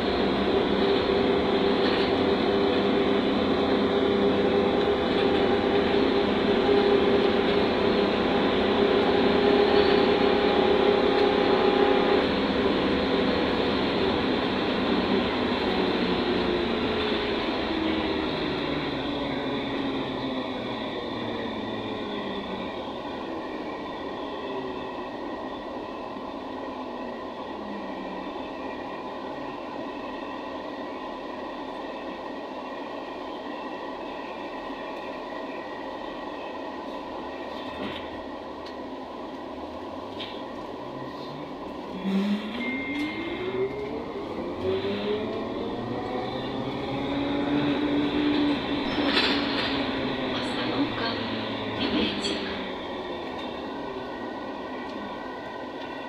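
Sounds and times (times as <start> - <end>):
bus rolling and body noise: 0.0 - 56.0.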